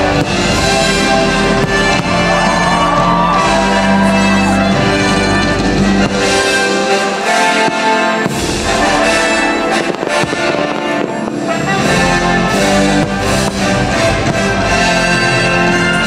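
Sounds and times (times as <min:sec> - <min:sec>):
fireworks bursting: 0:00.0 - 0:16.0
orchestral music led by brass: 0:00.0 - 0:16.0.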